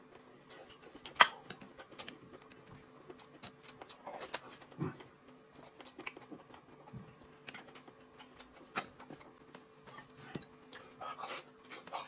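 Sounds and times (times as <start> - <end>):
faint steady hum: 0.0 - 12.0
man chewing food: 0.0 - 12.0.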